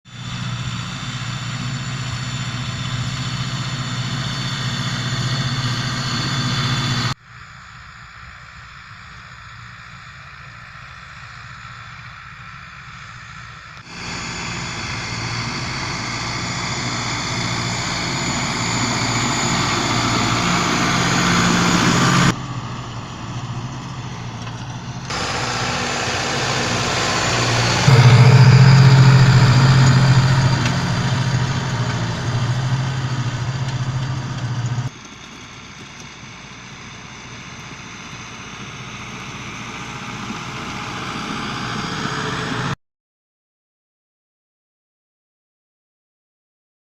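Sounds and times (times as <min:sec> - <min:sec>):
tractor diesel engine running: 0:00.1 - 0:42.8.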